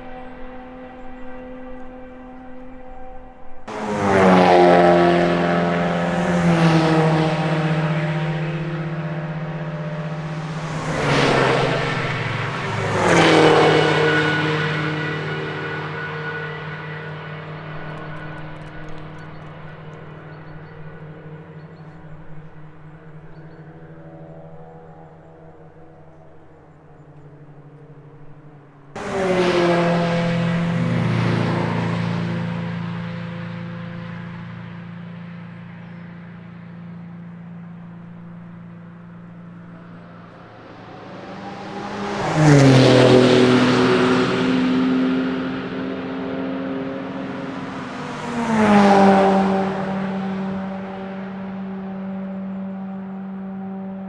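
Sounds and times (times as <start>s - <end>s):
cars driving past at speed: 3.6s - 54.0s.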